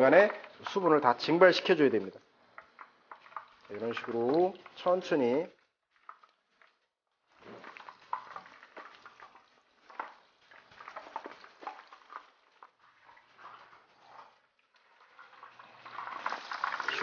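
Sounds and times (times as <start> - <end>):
shrimp deep-frying in oil: 0.0 - 17.0.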